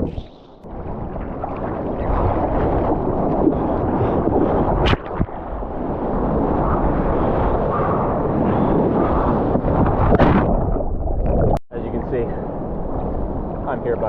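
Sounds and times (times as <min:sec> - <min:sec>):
rushing lake surf: 0:00.0 - 0:10.8, 0:11.5 - 0:14.0
wind buffeting microphone: 0:00.0 - 0:14.0.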